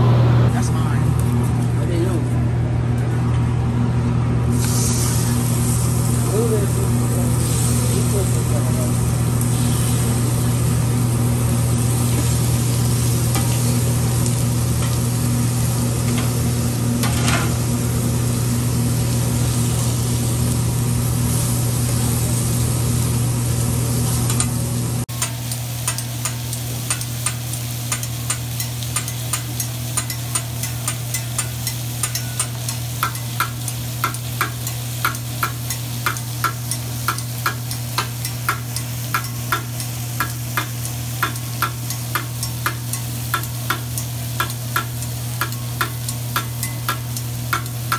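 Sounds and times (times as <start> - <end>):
steady low hum: 0.0 - 47.9
food sizzling on griddle: 4.5 - 47.9.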